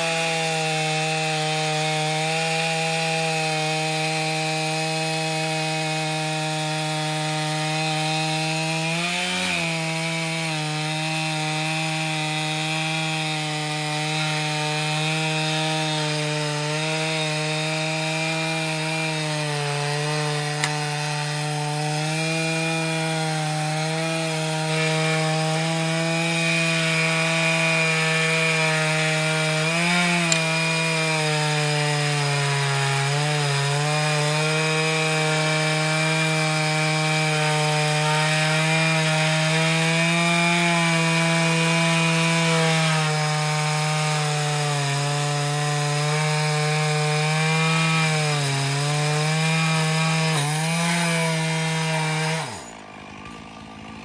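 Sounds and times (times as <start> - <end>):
chainsaw ripping through log: 0.0 - 54.0.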